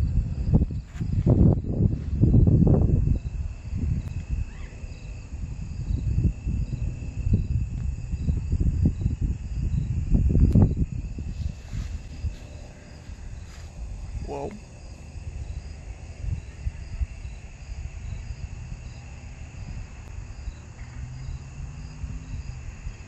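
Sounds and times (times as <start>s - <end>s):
insects trilling: 0.0s - 23.0s
low rumbles: 0.0s - 23.0s.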